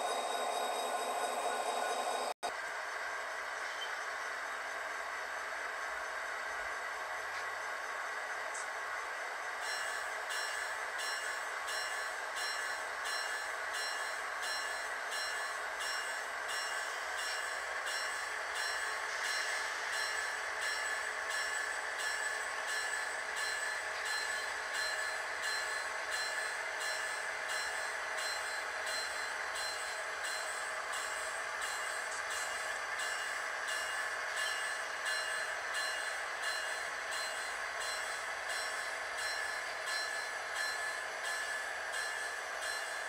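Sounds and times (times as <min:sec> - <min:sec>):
locomotive bell ringing: 0:00.0 - 0:02.4, 0:09.6 - 0:43.0
model locomotive engine hum: 0:00.0 - 0:43.0.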